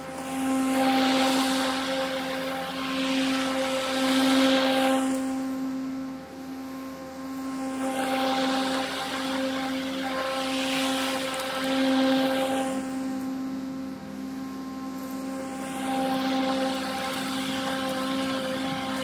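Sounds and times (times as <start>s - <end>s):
electric lawn mower running: 0.0s - 19.0s.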